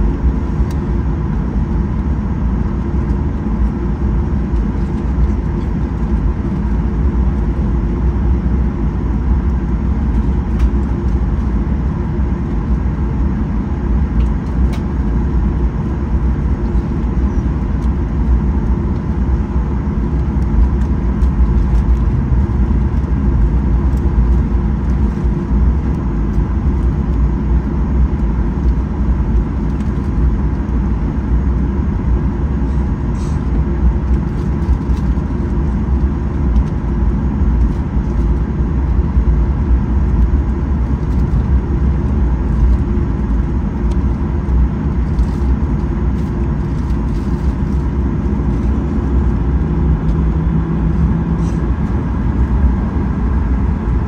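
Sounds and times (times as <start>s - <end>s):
aircraft engine rumble: 0.0s - 54.0s
faint steady hum: 0.0s - 54.0s.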